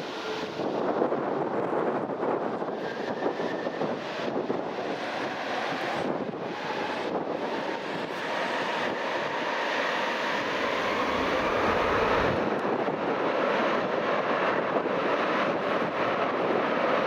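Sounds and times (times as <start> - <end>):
aircraft engine noise: 0.0 - 17.0
wind buffeting microphone: 0.0 - 17.0.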